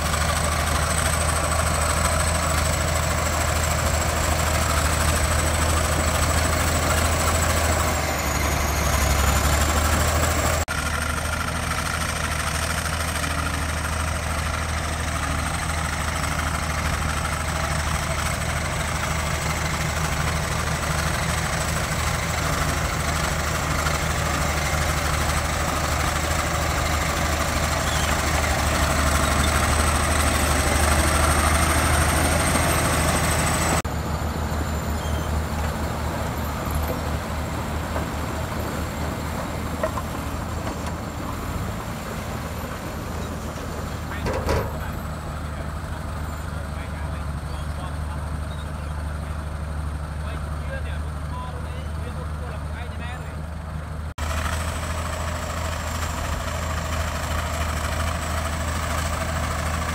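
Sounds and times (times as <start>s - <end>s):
bulldozer diesel engine drone: 0.0s - 59.9s.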